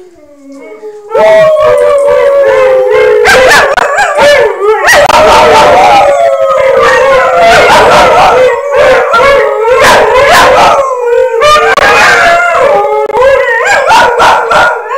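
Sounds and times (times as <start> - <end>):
dogs howling: 0.0 - 14.9.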